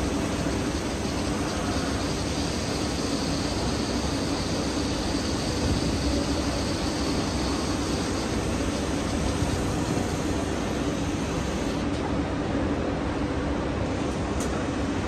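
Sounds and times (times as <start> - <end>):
machine running with hum and hiss: 0.0 - 15.0.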